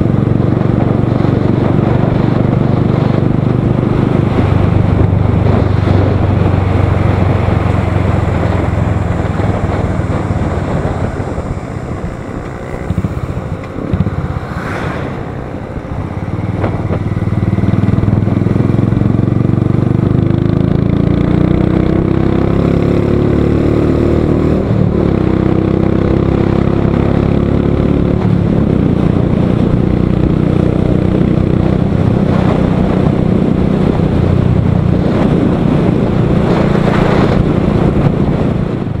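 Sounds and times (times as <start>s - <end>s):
bus engine drone: 0.0s - 39.0s
motorcycle engine running: 0.0s - 39.0s
wind rushing over microphone: 0.0s - 39.0s.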